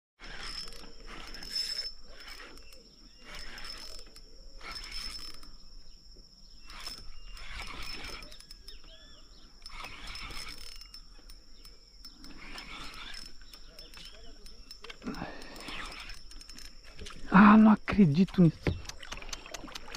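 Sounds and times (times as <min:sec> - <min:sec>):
fishing reel ratchet clicking: 0:00.2 - 0:05.8, 0:06.5 - 0:17.3.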